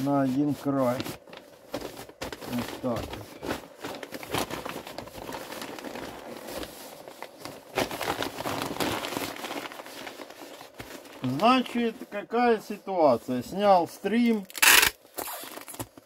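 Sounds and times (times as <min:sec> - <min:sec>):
paper crackles: 0:00.0 - 0:13.1
paper rustling and crinkling: 0:00.0 - 0:16.0.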